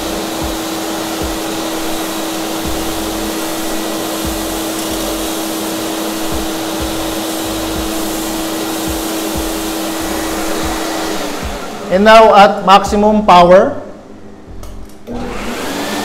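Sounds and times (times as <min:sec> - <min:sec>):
industrial vacuum running: 0:00.0 - 0:13.5, 0:15.0 - 0:16.0.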